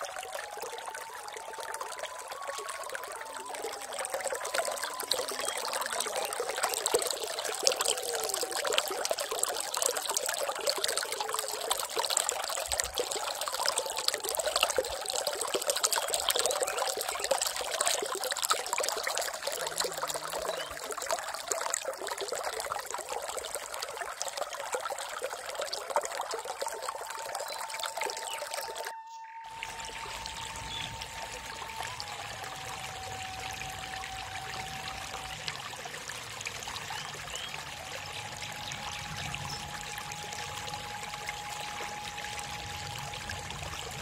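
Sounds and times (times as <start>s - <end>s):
water trickling and splashing: 0.0s - 44.0s.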